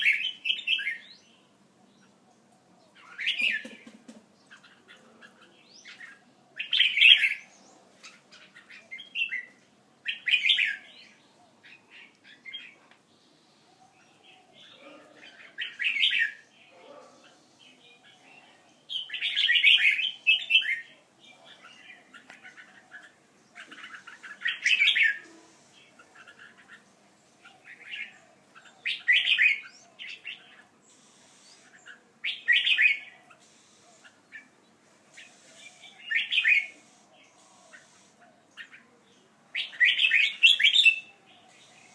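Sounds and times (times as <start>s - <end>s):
birds chirping rapidly: 0.0s - 41.9s.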